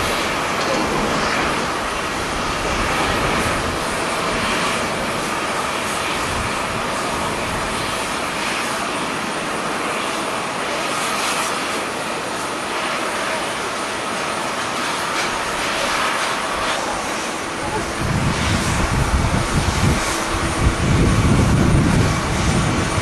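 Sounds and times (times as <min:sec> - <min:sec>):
faint jet engine whine: 0:00.0 - 0:23.0
jet engine rushing noise: 0:00.0 - 0:23.0.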